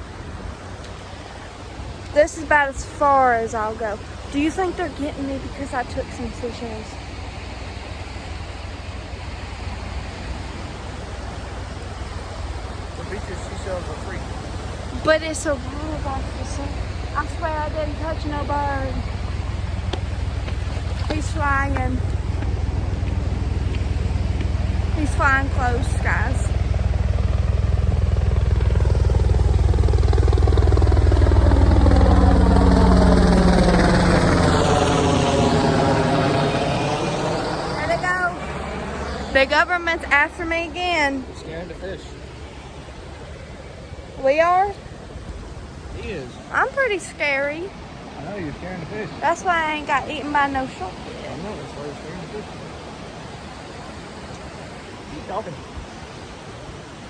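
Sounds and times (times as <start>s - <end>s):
helicopter rotor chop: 0.0s - 57.0s
ocean surf: 0.0s - 57.0s
wind: 0.0s - 57.0s.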